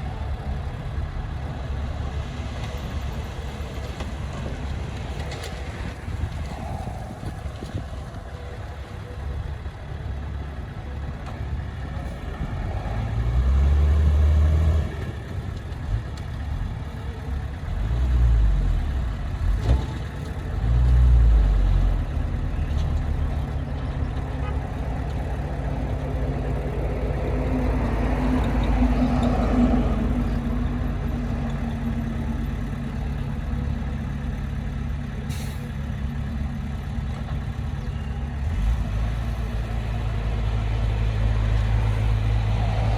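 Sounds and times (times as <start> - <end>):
heavy diesel engine rumbling: 0.0 - 42.9.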